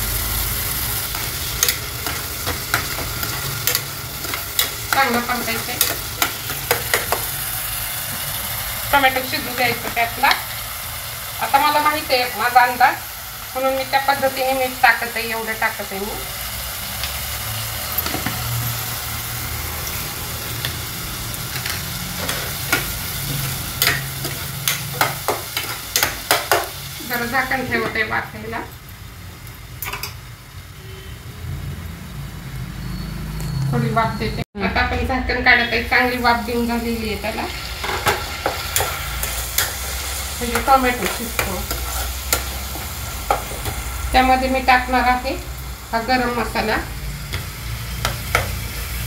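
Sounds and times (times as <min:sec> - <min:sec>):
sauce sizzling: 0:00.0 - 0:30.7, 0:34.8 - 0:49.0.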